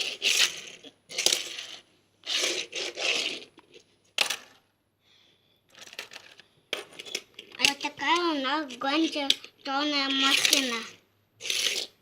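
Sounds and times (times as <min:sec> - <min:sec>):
toy car rattling and scraping: 0:00.0 - 0:04.6, 0:05.7 - 0:12.0.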